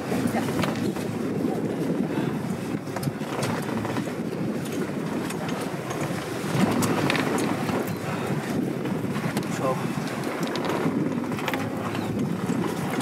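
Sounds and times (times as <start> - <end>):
motor boat rumbling: 0.0 - 13.0.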